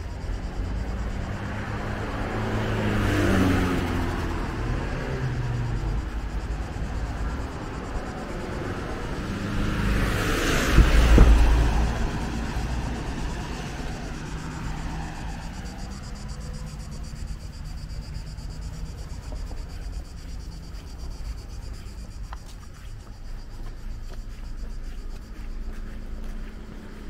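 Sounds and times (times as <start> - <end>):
traffic engine hum: 0.0 - 27.0
vehicle passing: 0.0 - 27.0.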